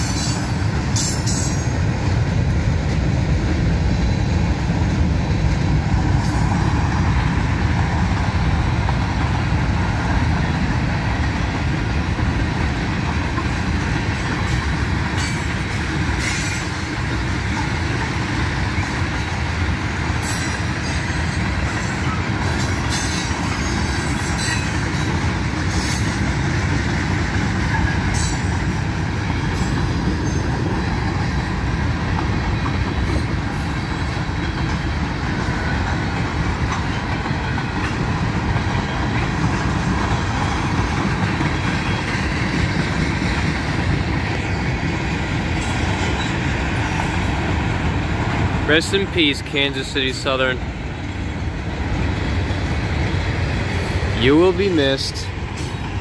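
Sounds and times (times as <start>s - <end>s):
freight train cars rolling: 0.0s - 56.0s.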